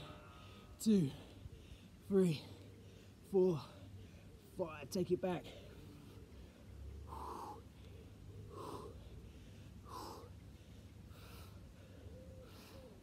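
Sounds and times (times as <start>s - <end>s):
man breathing hard: 0.0s - 4.4s, 5.4s - 13.0s.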